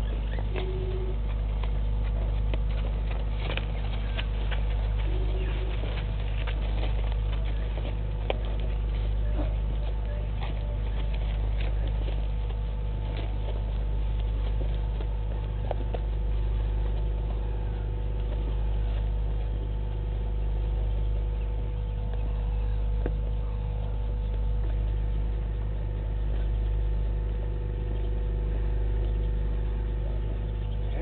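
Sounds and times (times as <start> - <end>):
faint steady tones: 0.0 - 31.0
low electrical hum: 0.0 - 31.0.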